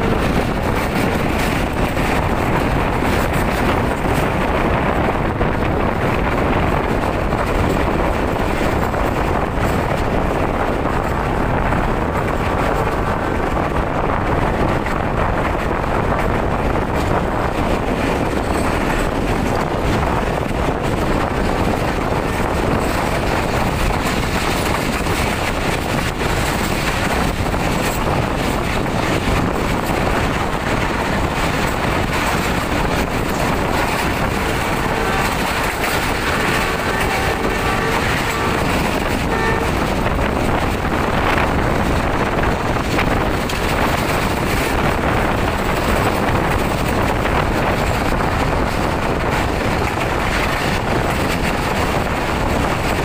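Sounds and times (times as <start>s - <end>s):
train wheels rumbling on rails: 0.0s - 53.0s
wind buffeting microphone: 0.0s - 53.0s.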